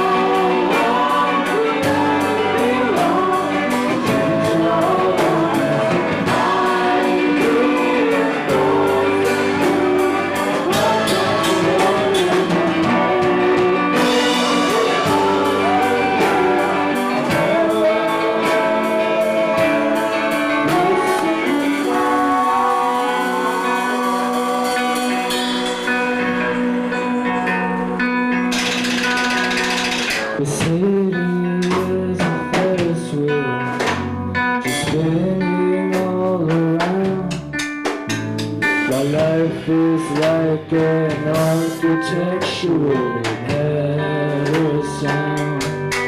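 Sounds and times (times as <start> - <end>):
live band playing: 0.0 - 46.0.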